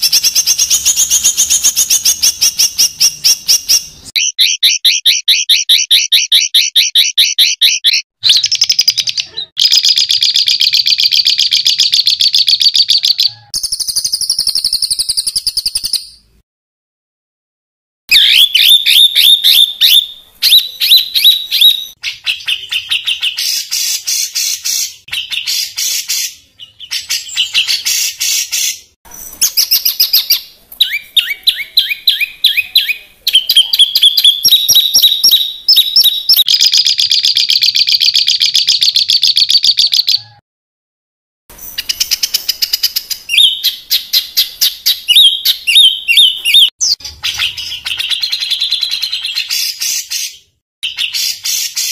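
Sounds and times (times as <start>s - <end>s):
songbird singing trills: 0.0s - 16.2s, 18.1s - 28.4s, 29.1s - 40.4s, 41.6s - 49.8s.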